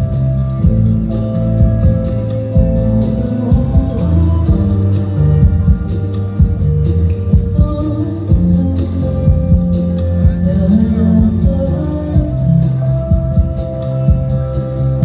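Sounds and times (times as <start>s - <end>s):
live rock band playing: 0.0s - 15.0s
person singing: 2.3s - 15.0s.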